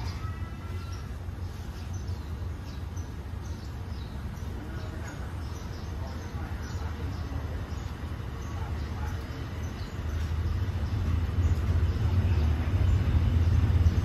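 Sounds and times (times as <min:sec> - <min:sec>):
small birds chirping: 0:00.0 - 0:14.0
train rumbling: 0:00.0 - 0:14.0.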